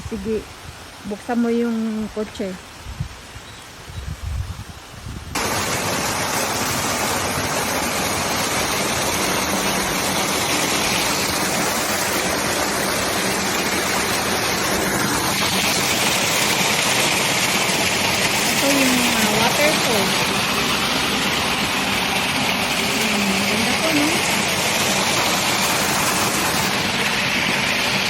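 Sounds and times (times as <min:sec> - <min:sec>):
waterfall rushing: 0:05.4 - 0:28.0.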